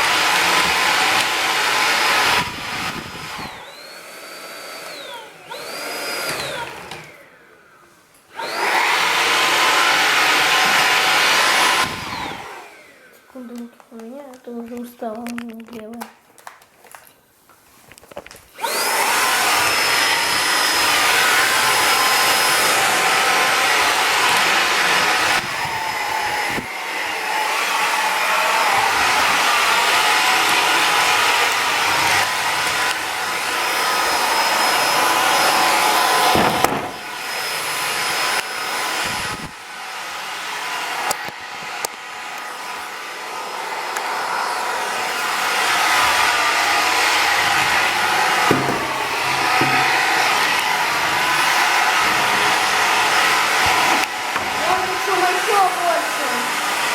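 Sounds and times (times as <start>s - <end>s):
vacuum cleaner motor whine: 0.0s - 13.4s, 18.5s - 56.9s.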